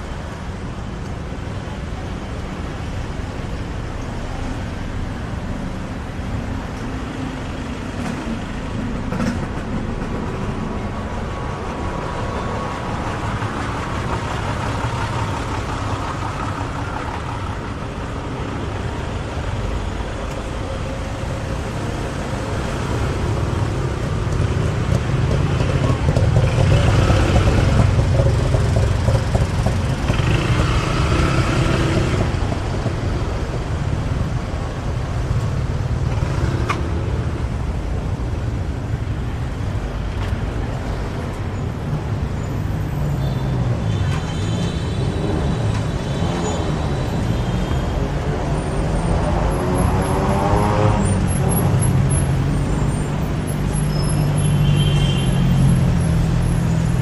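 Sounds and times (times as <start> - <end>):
car and motorbike engines: 0.0 - 57.0.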